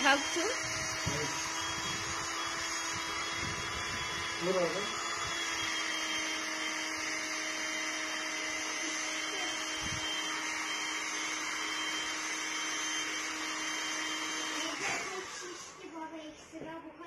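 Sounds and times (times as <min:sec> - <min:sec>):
electric air pump whining: 0:00.0 - 0:16.2.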